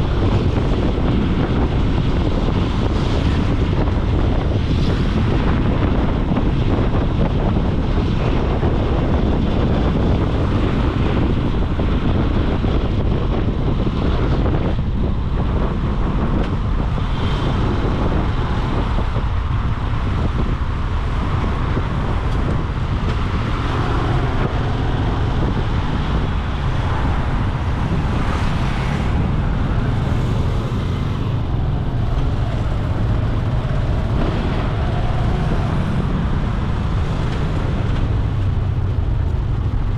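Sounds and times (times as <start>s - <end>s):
road traffic: 0.0s - 39.9s
wind buffeting microphone: 0.0s - 39.9s.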